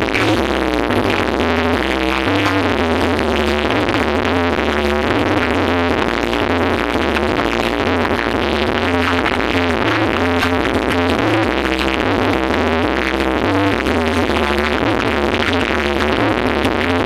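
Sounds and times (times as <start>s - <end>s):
electronic dance music with heavy bass: 0.0s - 17.0s.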